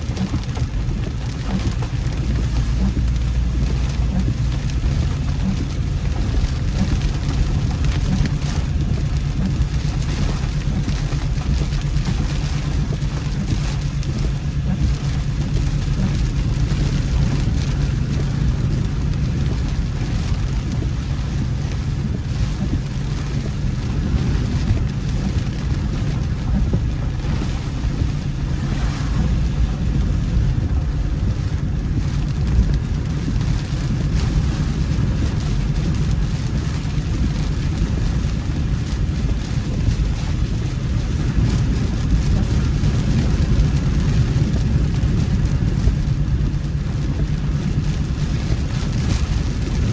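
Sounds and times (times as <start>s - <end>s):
rain hiss: 0.0s - 49.9s
road and engine rumble: 0.0s - 49.9s.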